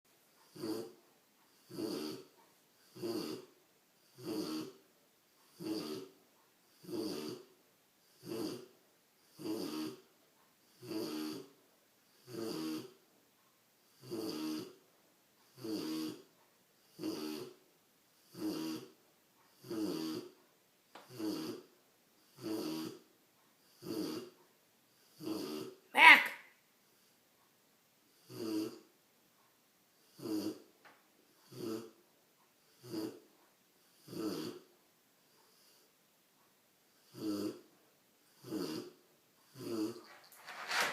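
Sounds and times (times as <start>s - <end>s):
puppy snoring: 0.4s - 13.1s, 13.8s - 26.4s, 28.1s - 29.0s, 29.9s - 32.0s, 32.6s - 36.0s, 36.9s - 40.9s.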